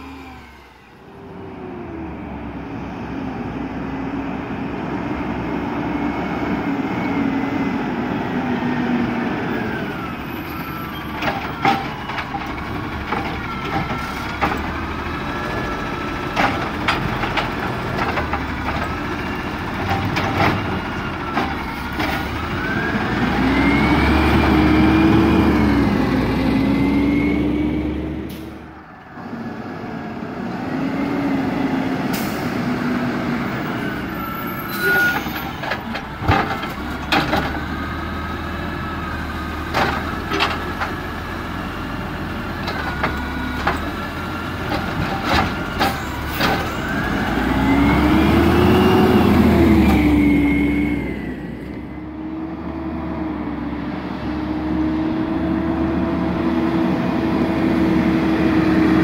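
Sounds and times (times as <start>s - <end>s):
garbage truck engine revving: 0.0s - 59.0s.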